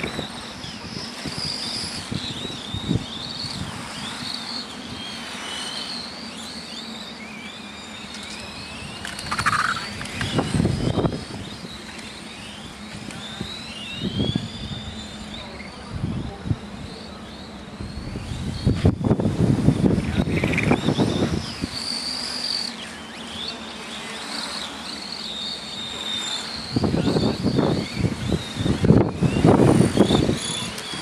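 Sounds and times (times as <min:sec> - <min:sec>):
radio-controlled car motors whining: 0:00.0 - 0:31.0.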